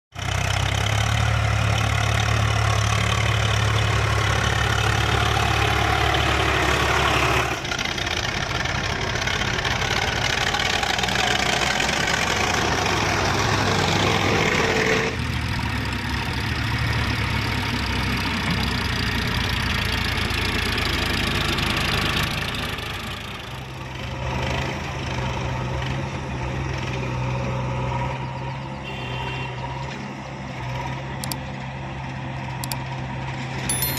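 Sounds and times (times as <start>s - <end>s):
heavy diesel engine running: 0.1s - 33.9s.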